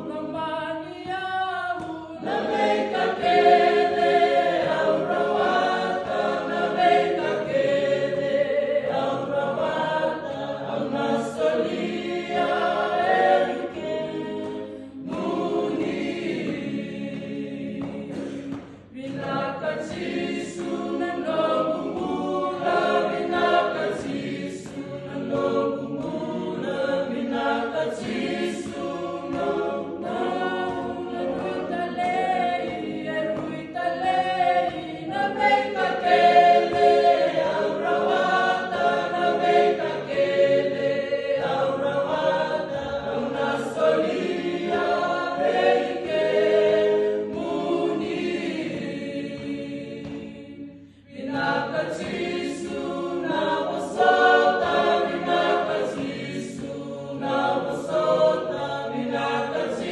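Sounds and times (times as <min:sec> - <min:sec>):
group singing in harmony: 0:00.0 - 0:59.9.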